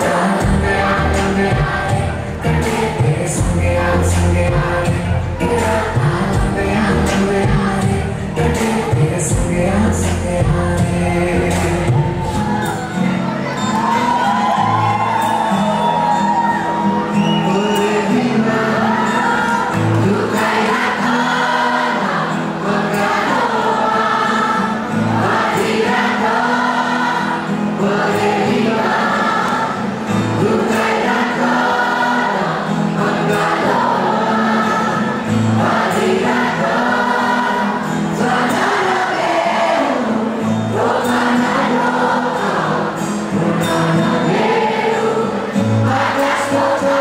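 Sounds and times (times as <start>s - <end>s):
song with singing voices: 0.0s - 47.0s.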